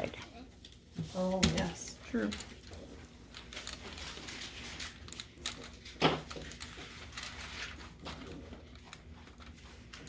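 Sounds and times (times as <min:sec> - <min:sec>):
paper and plastic crinkling: 0:00.0 - 0:10.0.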